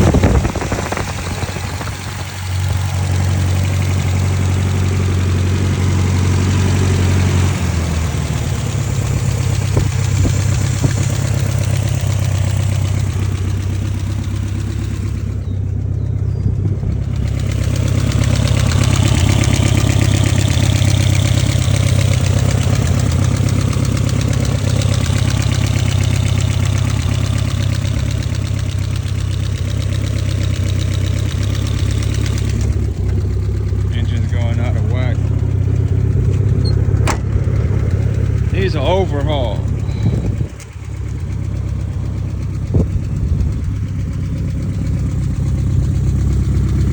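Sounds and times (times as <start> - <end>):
car engine idling: 0.0 - 46.9
engine knock ticking: 0.0 - 46.9.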